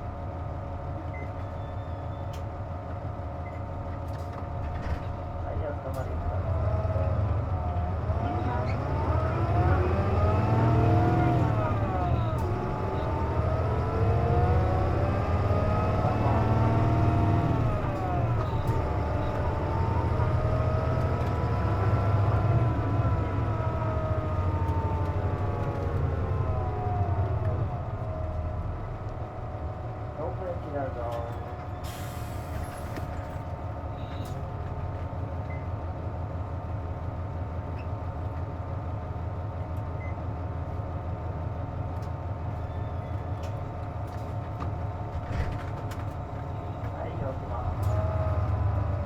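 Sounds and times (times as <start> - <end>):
diesel bus engine rumble: 0.0 - 49.0.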